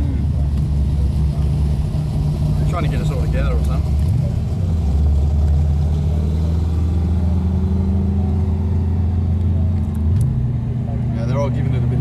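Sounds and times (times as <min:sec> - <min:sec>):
car engine from inside cabin: 0:00.0 - 0:12.0.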